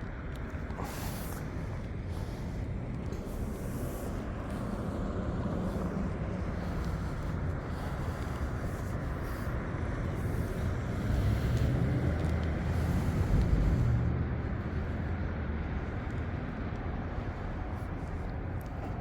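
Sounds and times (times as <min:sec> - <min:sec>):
street and traffic noise: 0:00.0 - 0:19.0.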